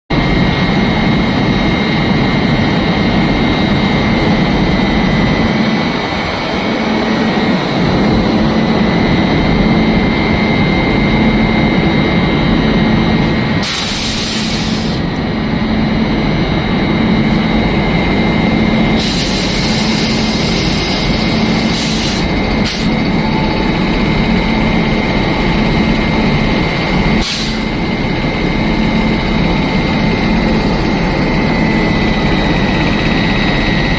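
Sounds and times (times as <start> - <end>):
engine running with whine: 0.1 - 33.9.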